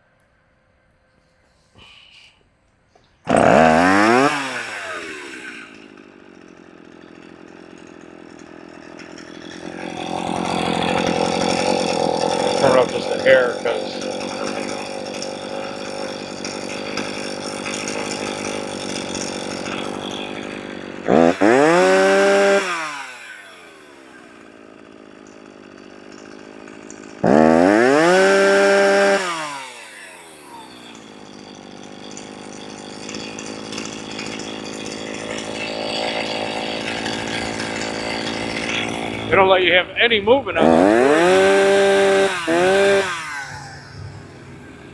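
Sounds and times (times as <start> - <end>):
chainsaw engine idling and revving: 3.0 - 44.9.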